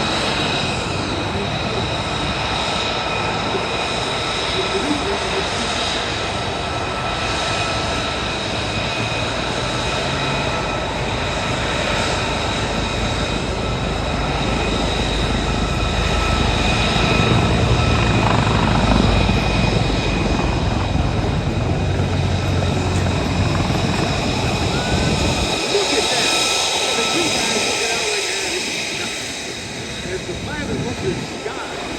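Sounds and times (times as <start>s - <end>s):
helicopter rotor and turbine noise: 0.0s - 31.9s
high turbine whine: 0.0s - 31.9s.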